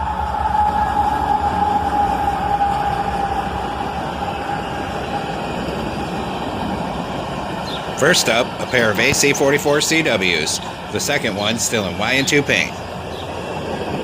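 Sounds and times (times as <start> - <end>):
steady high tone: 0.0 - 13.4
freight train rumble: 0.0 - 14.0.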